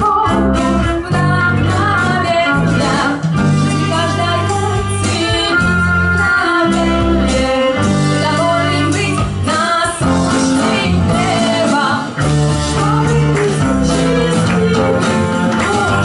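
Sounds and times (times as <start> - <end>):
strummed acoustic guitar: 0.0 - 16.0
women singing: 0.0 - 16.0
hand percussion: 1.1 - 16.0.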